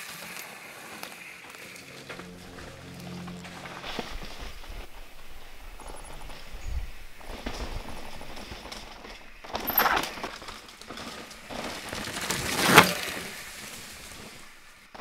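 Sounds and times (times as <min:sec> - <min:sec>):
bike passing close: 0:00.0 - 0:15.0
bike tyres rattling over rocks: 0:00.0 - 0:15.0.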